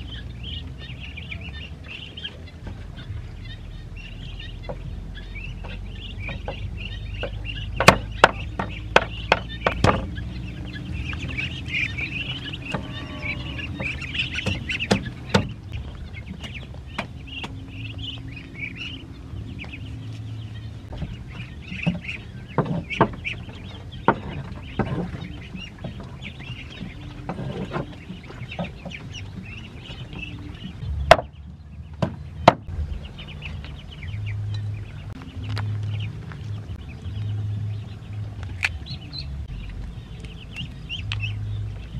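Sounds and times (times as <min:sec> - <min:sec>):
ducks and ducklings peeping: 0:00.0 - 0:41.9.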